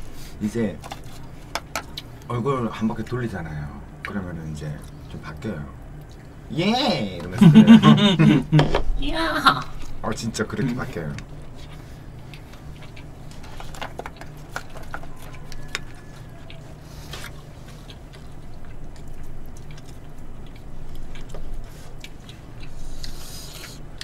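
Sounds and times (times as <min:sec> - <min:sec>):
chewing: 0:00.0 - 0:06.5, 0:09.6 - 0:24.0
steady low hum: 0:00.0 - 0:24.0.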